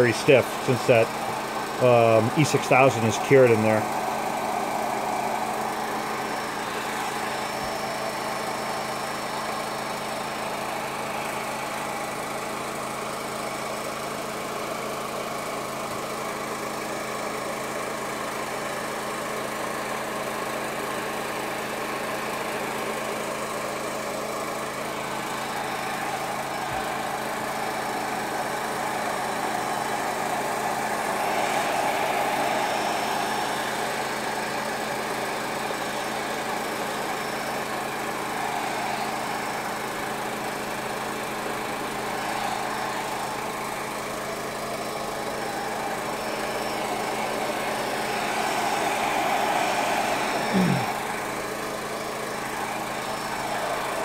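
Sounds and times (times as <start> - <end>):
paint sprayer motor running: 0.0 - 54.0.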